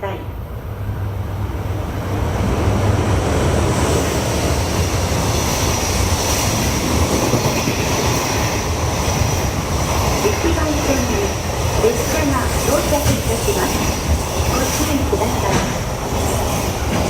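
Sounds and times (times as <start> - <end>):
train wheels rumbling on rails: 1.0 - 17.0.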